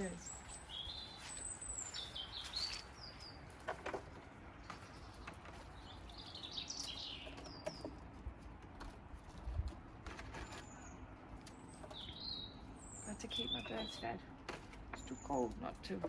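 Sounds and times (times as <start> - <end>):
small birds chirping: 0.0 - 8.4, 9.0 - 16.0.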